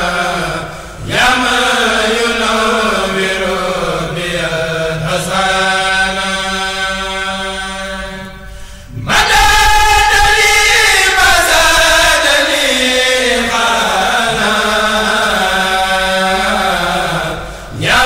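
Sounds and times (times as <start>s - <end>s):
religious chanting: 0.0s - 18.0s.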